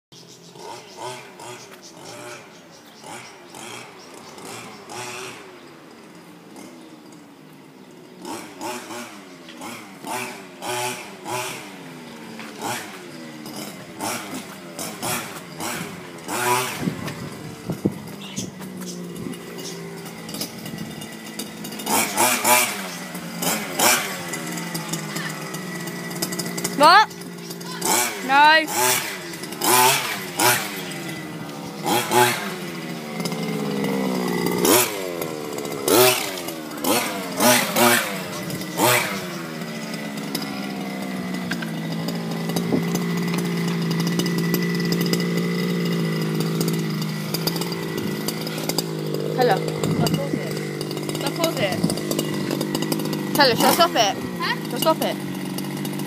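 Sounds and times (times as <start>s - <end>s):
small engine idling and revving: 0.0s - 56.0s.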